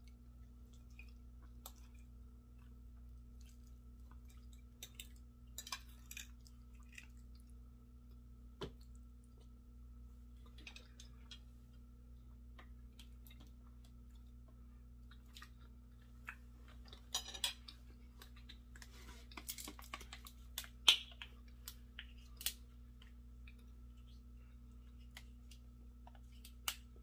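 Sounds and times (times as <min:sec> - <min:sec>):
chewing: 0:00.1 - 0:08.2, 0:12.9 - 0:26.8.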